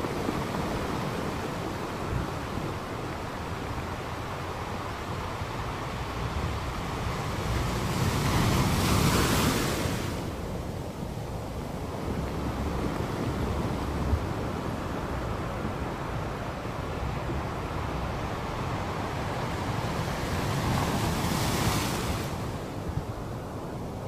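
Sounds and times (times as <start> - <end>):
surf rumbling on beach: 0.0 - 24.0
wind on microphone: 0.0 - 24.0.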